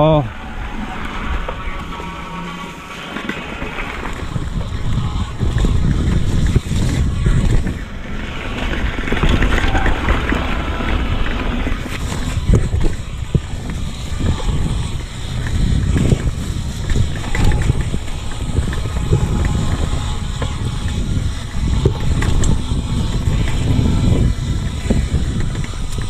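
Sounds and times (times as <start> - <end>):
bike knocking and rattling: 0.0 - 26.0
bike tyres on dirt: 0.0 - 26.0
wind buffeting microphone: 0.0 - 26.0.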